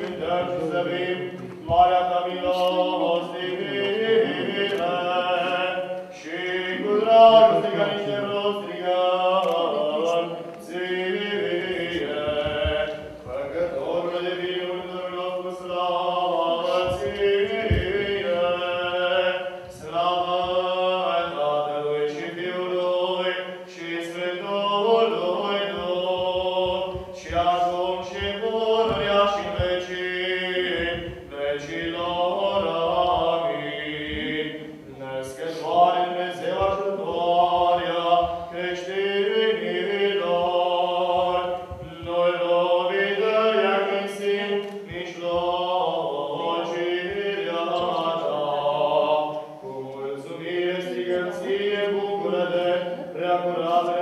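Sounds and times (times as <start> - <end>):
unaccompanied liturgical chanting: 0.0 - 54.0.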